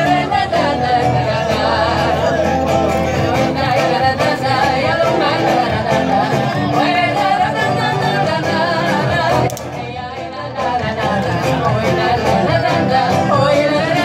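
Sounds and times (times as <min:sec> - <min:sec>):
strummed acoustic guitars: 0:00.0 - 0:14.0
women singing: 0:00.0 - 0:14.0.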